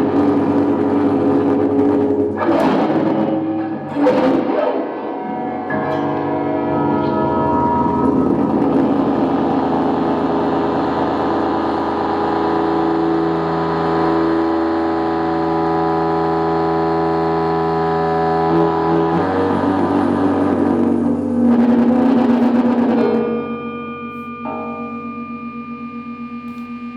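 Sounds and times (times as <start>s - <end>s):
electric guitar feedback drone: 0.0s - 26.9s.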